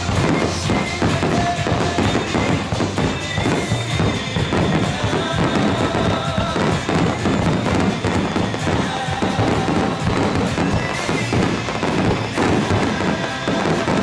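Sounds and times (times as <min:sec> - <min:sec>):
fireworks bangs and crackles: 0:00.0 - 0:14.0
music playing: 0:00.0 - 0:14.0.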